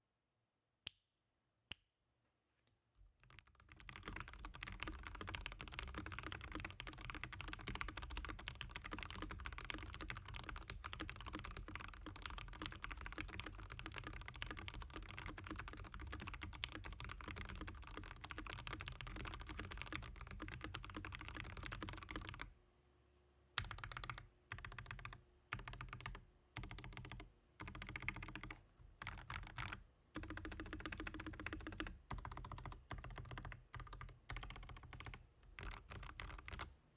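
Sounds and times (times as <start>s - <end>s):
typing on mechanical keyboard: 3.2s - 22.5s, 23.6s - 36.7s.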